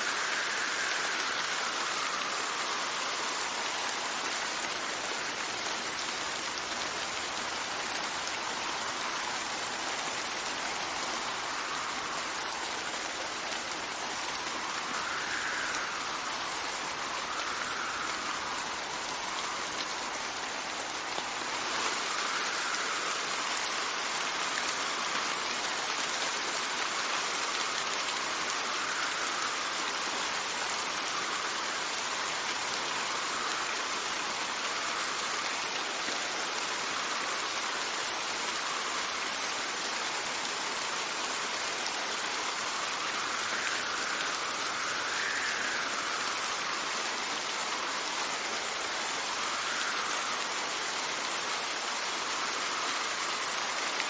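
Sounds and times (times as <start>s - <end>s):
gentle wind: 0.0s - 54.0s
steady rain: 0.0s - 54.0s.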